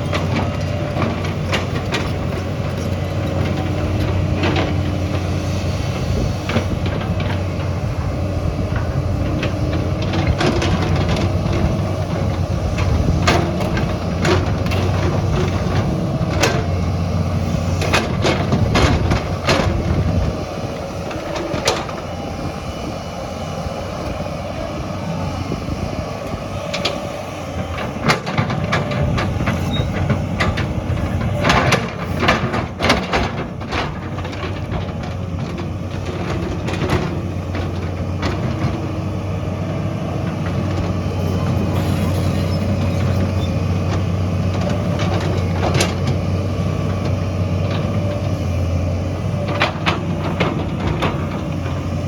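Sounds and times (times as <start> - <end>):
heavy machine engine under load: 0.0 - 52.0.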